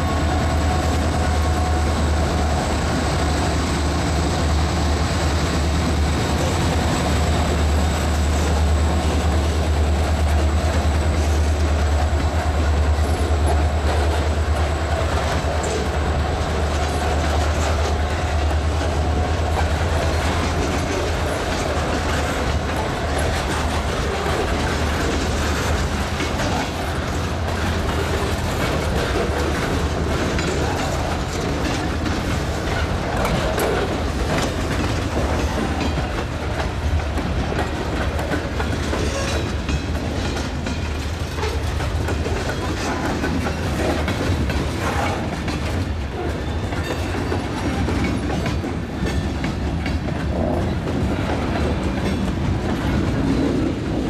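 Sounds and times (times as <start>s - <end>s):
freight wheels clacking on rail joints: 0.0s - 54.0s
train rumble: 0.0s - 54.0s.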